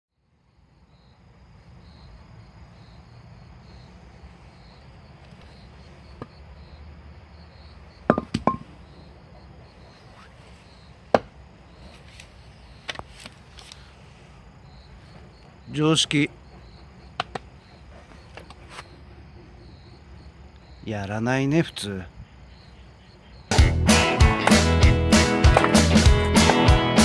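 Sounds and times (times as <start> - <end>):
insects chirring: 0.2 - 27.0.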